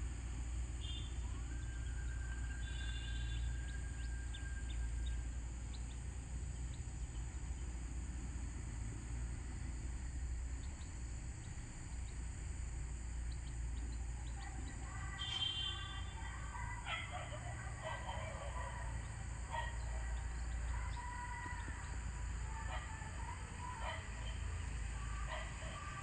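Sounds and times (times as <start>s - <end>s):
faint chirps: 0.2s - 26.0s
birds calling: 0.8s - 8.0s, 10.6s - 26.0s
high insect buzz: 2.5s - 26.0s.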